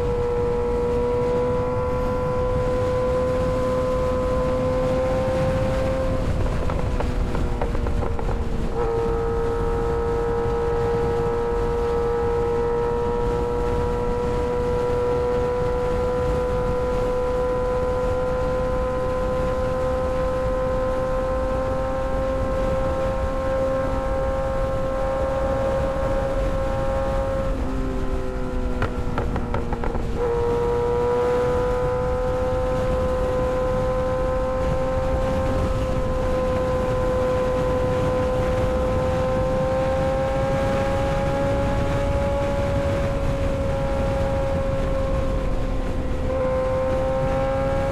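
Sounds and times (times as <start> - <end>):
motorcycle engine running: 0.0 - 47.9
wind noise: 0.0 - 47.9.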